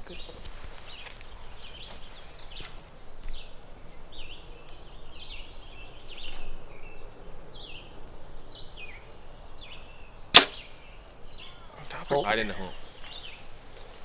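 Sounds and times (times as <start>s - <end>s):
bird chirping: 0.0s - 13.6s.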